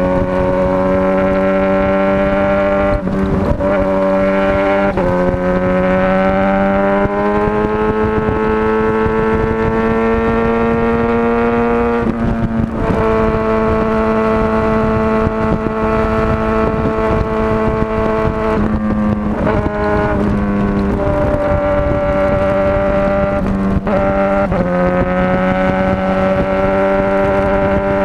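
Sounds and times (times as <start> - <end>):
motorcycle engine running: 0.0 - 28.0
wind noise rumble: 0.0 - 28.0.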